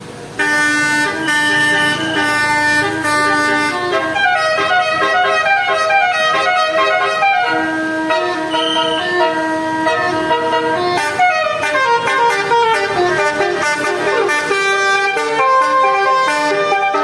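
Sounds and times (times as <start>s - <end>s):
musical bus horn melody: 0.2s - 17.0s.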